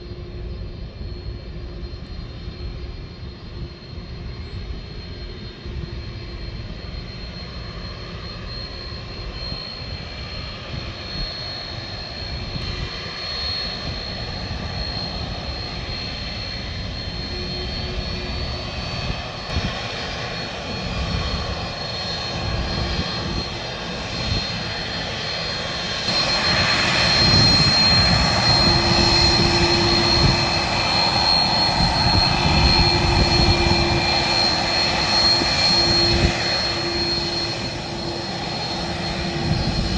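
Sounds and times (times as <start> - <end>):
jet engines rushing and whining: 0.0 - 39.9.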